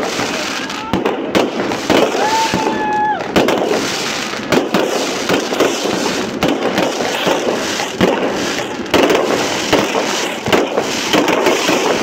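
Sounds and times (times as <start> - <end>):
firework shells crackling: 0.0 - 12.0
loud firework bangs: 0.0 - 12.0.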